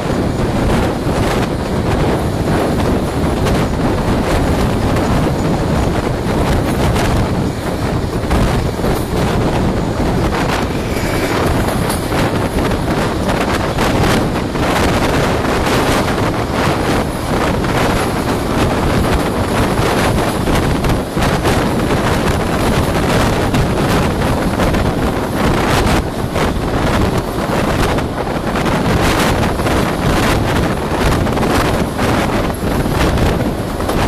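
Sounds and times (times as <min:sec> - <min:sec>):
train running: 0:00.0 - 0:34.0
wind rushing over microphone: 0:00.0 - 0:34.0.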